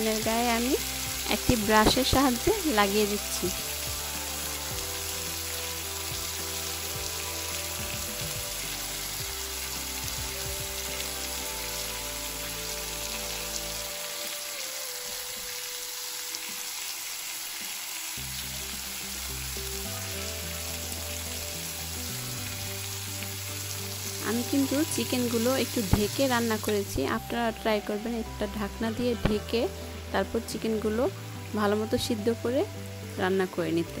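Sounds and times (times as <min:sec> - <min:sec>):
chicken frying in oil: 0:00.0 - 0:34.0.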